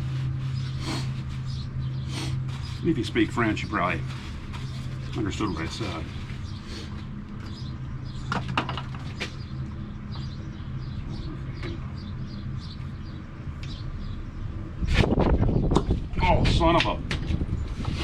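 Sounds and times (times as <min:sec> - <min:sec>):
electric pump motor running: 0:00.0 - 0:16.1.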